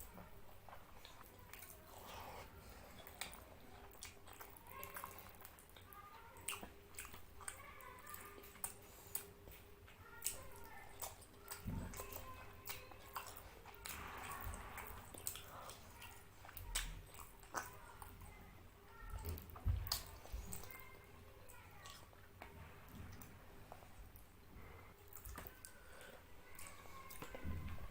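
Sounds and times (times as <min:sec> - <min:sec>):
person chewing food: 0:00.0 - 0:18.3, 0:19.2 - 0:20.8, 0:21.8 - 0:27.9.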